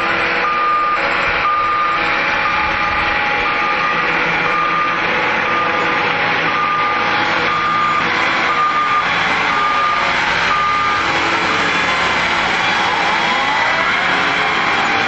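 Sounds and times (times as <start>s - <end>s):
engine running: 0.0s - 15.0s
reversing alarm beeping: 0.0s - 15.0s.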